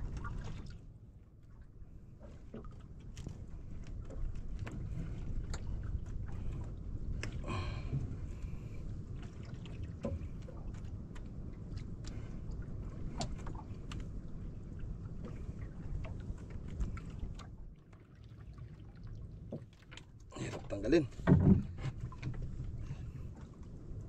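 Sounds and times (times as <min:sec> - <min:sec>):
wind and sea rumble: 0:00.0 - 0:24.0.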